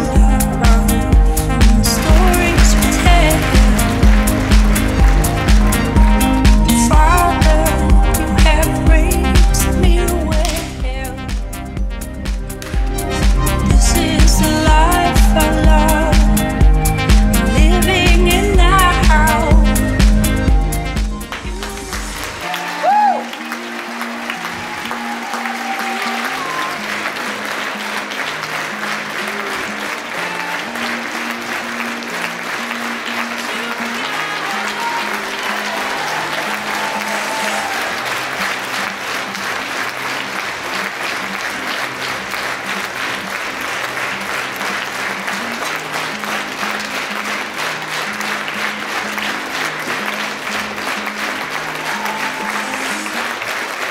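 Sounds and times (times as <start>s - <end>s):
audience applauding: 0.0s - 9.7s, 12.2s - 53.9s.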